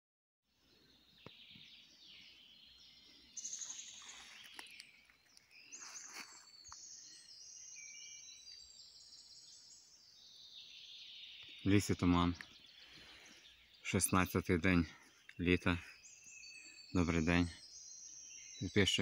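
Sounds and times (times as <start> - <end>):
songbirds singing: 0.5 - 19.0.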